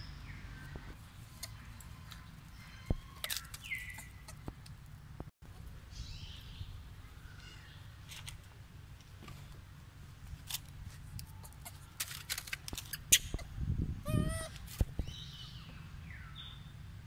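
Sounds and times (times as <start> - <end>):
rustles: 0.0 - 15.9.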